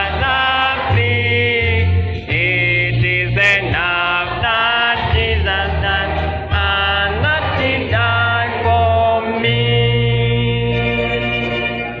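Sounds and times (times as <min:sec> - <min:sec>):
hymn music long chord: 0:00.0 - 0:12.0.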